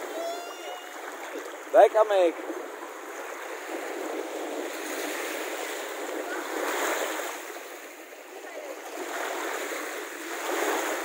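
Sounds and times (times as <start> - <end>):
small waves washing on sand: 0.0 - 11.0.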